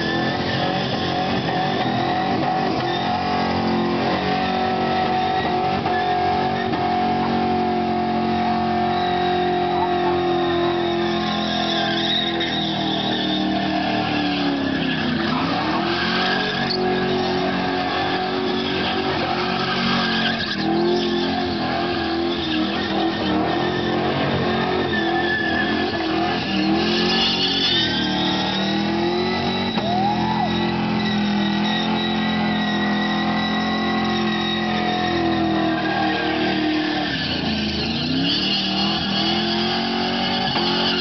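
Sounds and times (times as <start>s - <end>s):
car engine revving high: 0.0s - 41.0s
spinning tyres squealing: 0.0s - 41.0s.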